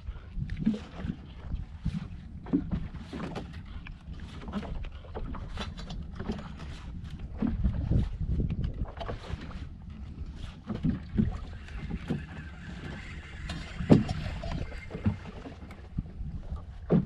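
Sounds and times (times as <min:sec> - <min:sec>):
boat motor running: 0:00.0 - 0:17.0
wind buffeting microphone: 0:00.0 - 0:17.0.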